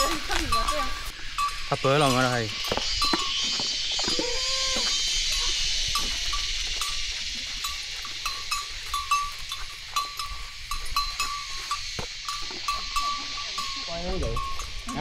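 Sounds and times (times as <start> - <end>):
elephant bell clinking: 0.0 - 15.0
forest insects buzzing: 0.0 - 15.0.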